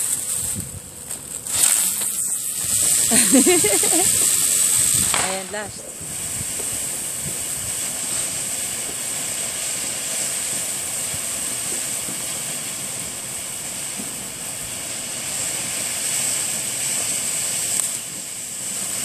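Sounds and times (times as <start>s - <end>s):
firework fountain hissing: 0.0s - 19.0s.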